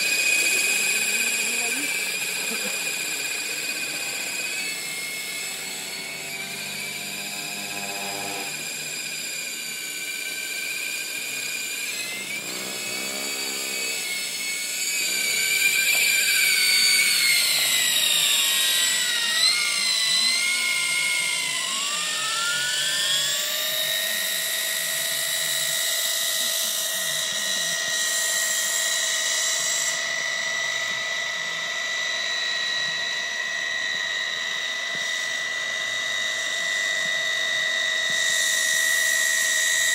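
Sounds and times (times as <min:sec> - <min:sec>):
toy helicopter motor whining: 0:00.0 - 0:39.9.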